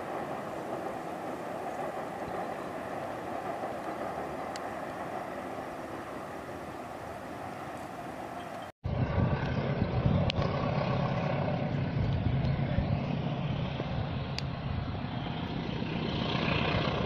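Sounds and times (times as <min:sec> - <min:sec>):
passing vehicles rolling: 0:00.0 - 0:17.0.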